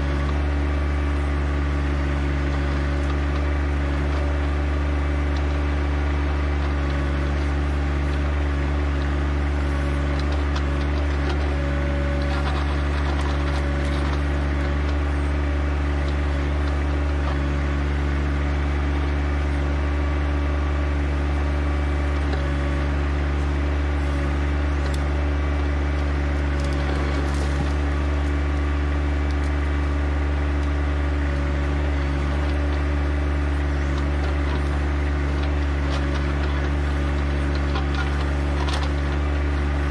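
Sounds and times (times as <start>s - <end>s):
backhoe scraping and knocking: 0.0s - 39.9s
tractor diesel engine running: 0.0s - 39.9s.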